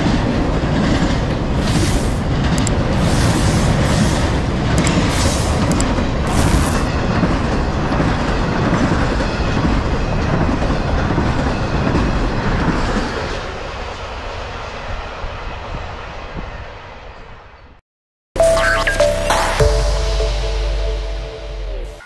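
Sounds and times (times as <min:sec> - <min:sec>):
freight train rumbling past: 0:00.0 - 0:17.8, 0:19.1 - 0:22.0.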